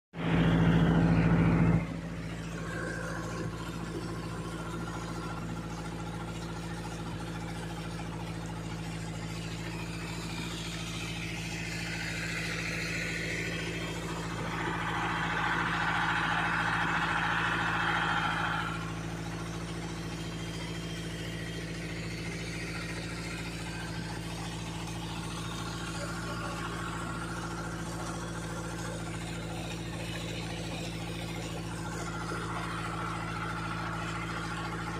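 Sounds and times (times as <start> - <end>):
motorboat engine running: 0.1 - 34.9.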